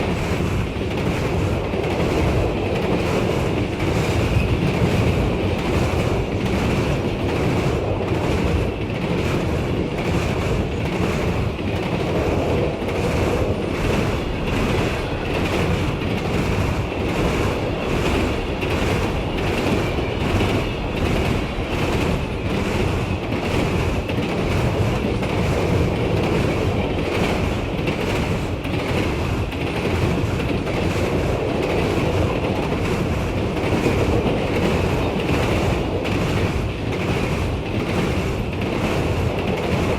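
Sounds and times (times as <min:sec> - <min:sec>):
train cars rumbling past: 0:00.0 - 0:39.9
wheel clacks over rail joints: 0:00.0 - 0:39.9.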